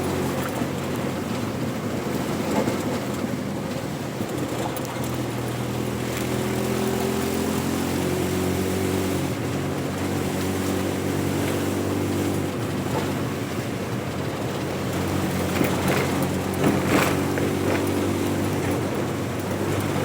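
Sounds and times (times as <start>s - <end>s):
tyre and road noise: 0.0s - 20.0s
vehicle engine running: 0.0s - 20.0s.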